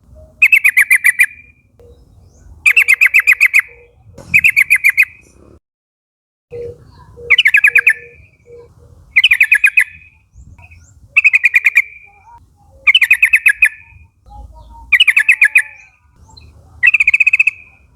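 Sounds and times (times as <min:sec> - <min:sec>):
bird chattering calls: 0:00.0 - 0:05.5, 0:06.5 - 0:17.9.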